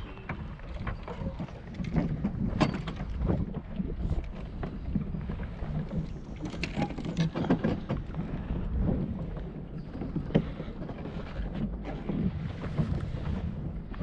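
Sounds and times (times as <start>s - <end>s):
water lapping against dock: 0.0s - 14.0s
wind rumbling on microphone: 0.0s - 14.0s.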